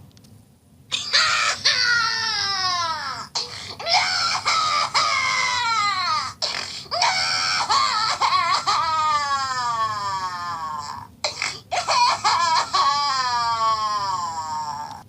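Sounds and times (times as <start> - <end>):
cartoon baby crying: 0.9 - 15.0.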